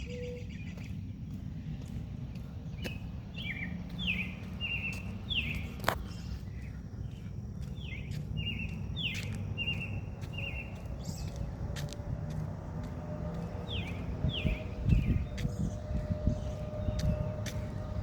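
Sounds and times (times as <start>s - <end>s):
songbird singing trills: 0.0s - 1.4s, 2.5s - 18.0s
low rumble: 0.0s - 18.0s.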